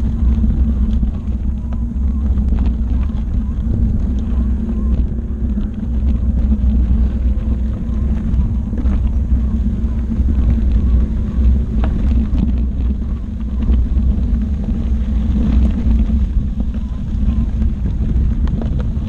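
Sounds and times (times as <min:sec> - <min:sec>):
tyre rolling over gravel: 0:00.0 - 0:19.0
wind rumble on microphone: 0:00.0 - 0:19.0.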